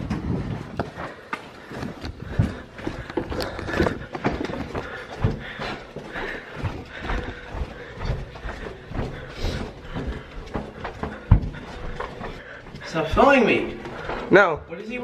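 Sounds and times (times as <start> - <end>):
footsteps on carpet: 0.8 - 15.0.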